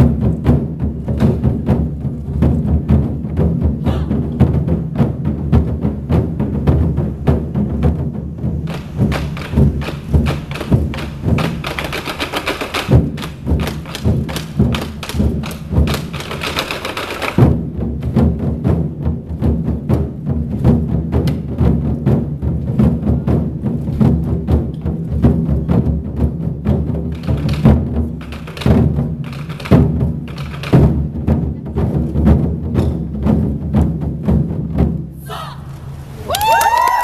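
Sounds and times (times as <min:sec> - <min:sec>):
barrel drums beaten with sticks: 0:00.0 - 0:35.5.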